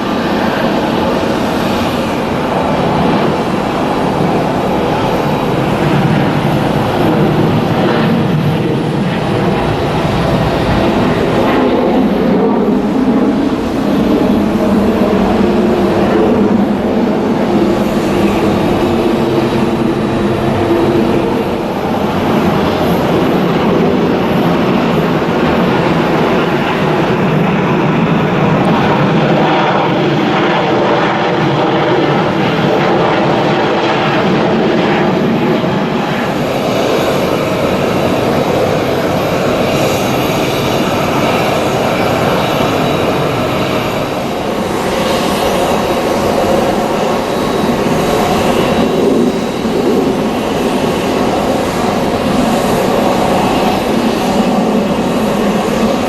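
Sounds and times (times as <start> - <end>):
jet engines running loud: 0.0 - 56.0.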